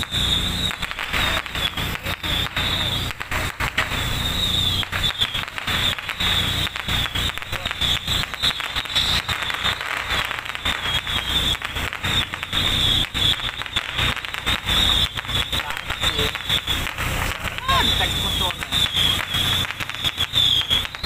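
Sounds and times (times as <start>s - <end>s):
firecrackers popping: 0.0s - 21.0s.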